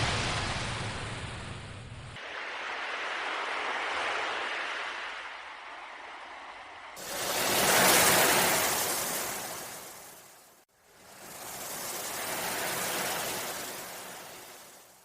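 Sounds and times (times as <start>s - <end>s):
ocean waves washing in: 0.0s - 15.0s.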